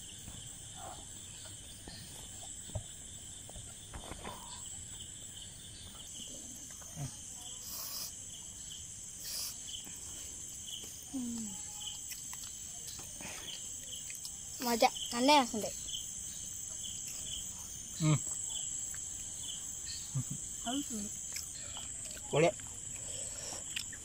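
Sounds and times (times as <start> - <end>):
insects chirping trill: 0.0 - 24.0.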